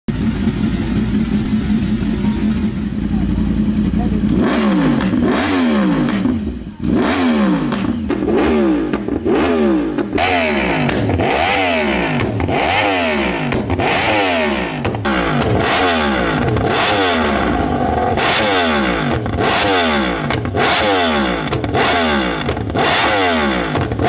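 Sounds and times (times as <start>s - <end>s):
motorcycle engine revving: 0.1s - 24.0s.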